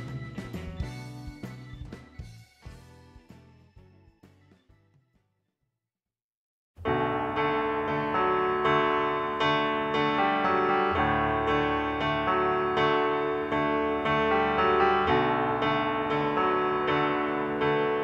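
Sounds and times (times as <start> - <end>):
piano background music: 0.0 - 4.4, 6.8 - 18.0.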